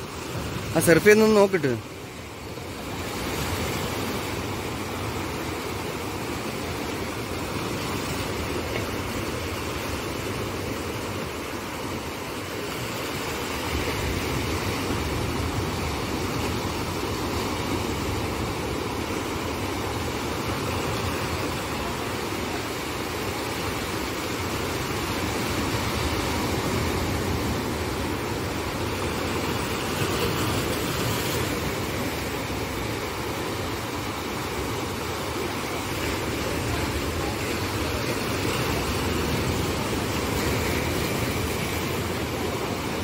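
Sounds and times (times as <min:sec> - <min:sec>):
sea waves breaking in shallows: 0:00.0 - 0:43.0.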